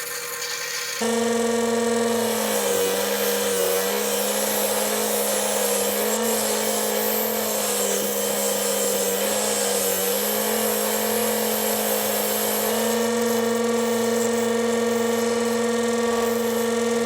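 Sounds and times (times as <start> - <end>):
electric power tool running: 0.0 - 17.0.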